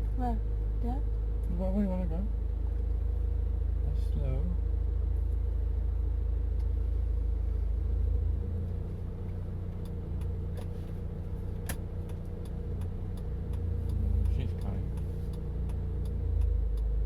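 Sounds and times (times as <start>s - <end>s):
car rumble from inside cabin: 0.0s - 17.0s.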